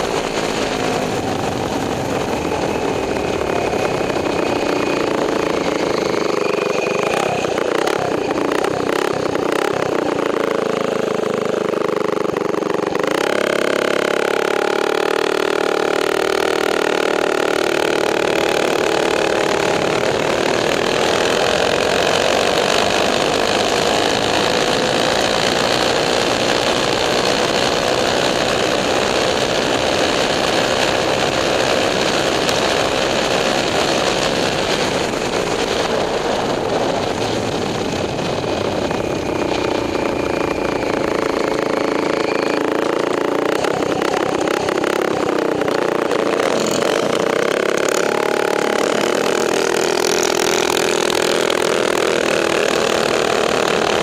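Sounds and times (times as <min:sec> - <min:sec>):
minibike small engine running: 0:00.0 - 0:54.0.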